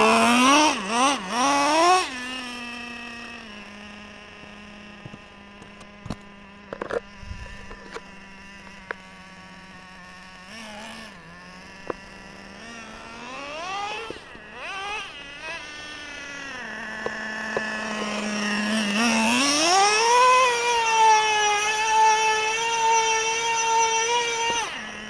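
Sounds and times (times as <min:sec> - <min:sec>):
nitro engine idling and revving: 0:00.0 - 0:25.0.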